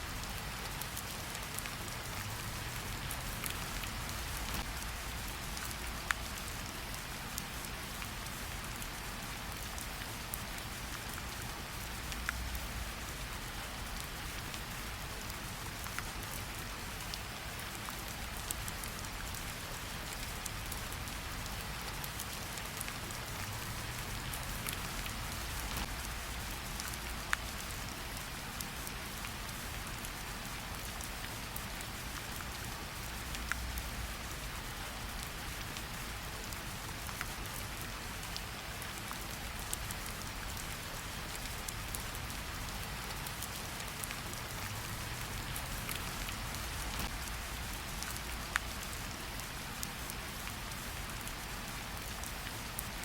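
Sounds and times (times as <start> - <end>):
close raindrops striking: 0.0 - 53.0
rain on tree leaves: 0.0 - 53.0.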